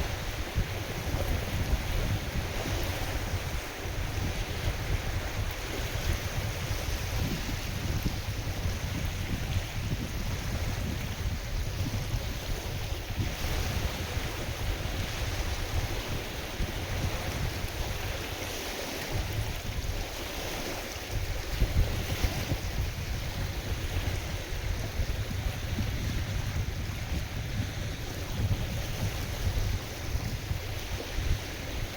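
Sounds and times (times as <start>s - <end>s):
waves washing on a lake: 0.0s - 31.9s
wind gusting on microphone: 0.0s - 31.9s.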